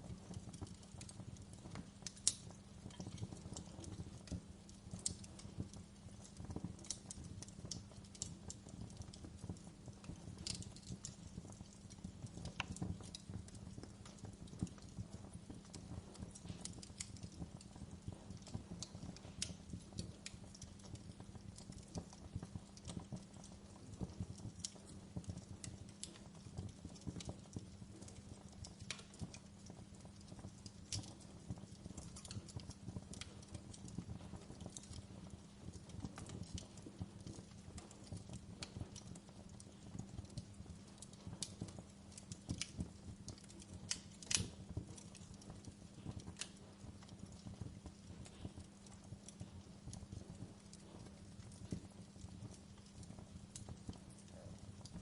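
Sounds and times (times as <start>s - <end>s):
fire crackling: 0.0s - 55.0s.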